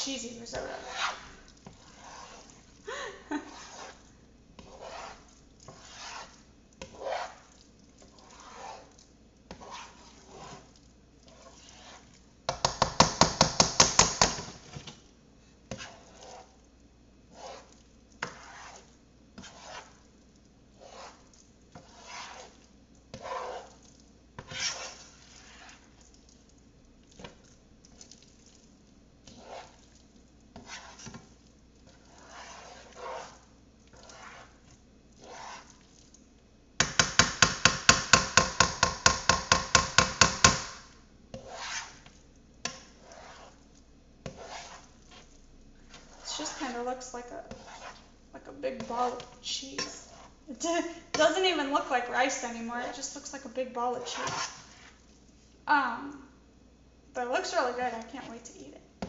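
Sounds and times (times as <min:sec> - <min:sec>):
spoon scraping a pan: 0:00.0 - 0:15.0, 0:15.7 - 0:16.7, 0:17.3 - 0:26.5, 0:27.1 - 0:36.2, 0:36.8 - 0:55.6.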